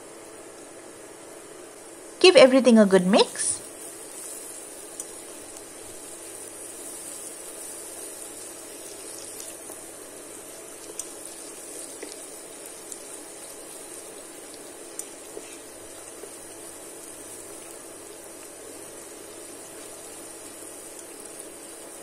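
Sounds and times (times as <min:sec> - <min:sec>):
onions sizzling in hot oil: 0:03.6 - 0:22.0.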